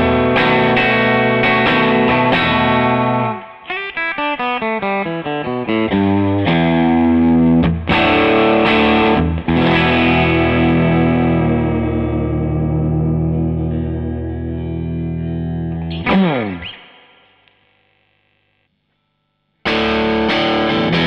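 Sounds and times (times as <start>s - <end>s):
electric guitar riff: 0.0s - 17.5s, 19.6s - 21.0s.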